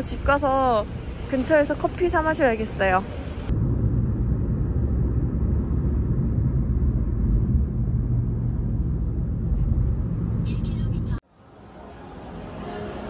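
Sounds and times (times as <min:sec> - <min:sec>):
bus engine rumble: 0:00.0 - 0:13.0
road noise: 0:00.0 - 0:13.0.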